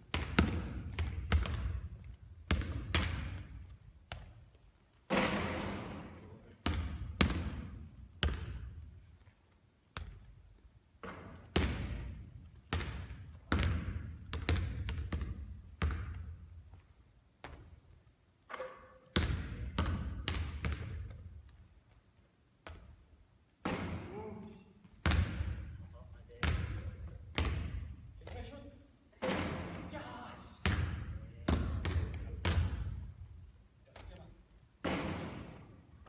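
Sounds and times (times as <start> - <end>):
basketball bouncing on court: 0.0 - 9.0, 9.9 - 16.8, 17.4 - 17.9, 18.5 - 21.5, 22.6 - 23.0, 23.6 - 28.5, 29.2 - 29.9, 30.5 - 33.1, 34.8 - 35.8.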